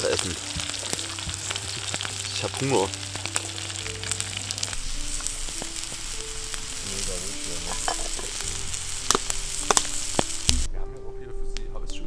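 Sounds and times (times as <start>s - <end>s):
fire crackling: 0.0s - 10.7s
food sizzling over fire: 0.0s - 10.7s.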